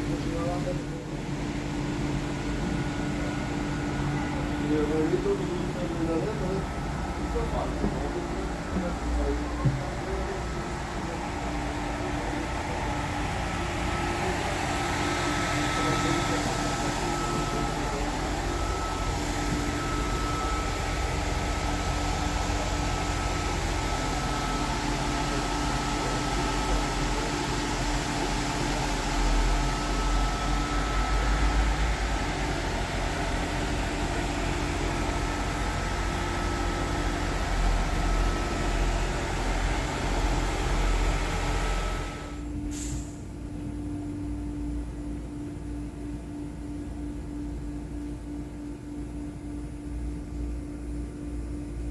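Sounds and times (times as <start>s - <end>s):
thin steady whine: 0.0s - 51.9s.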